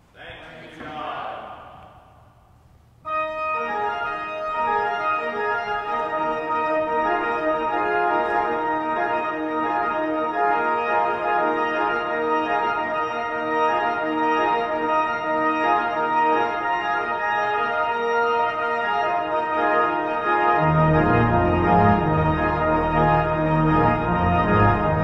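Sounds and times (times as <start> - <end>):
pipe organ playing chords: 3.0 - 25.0.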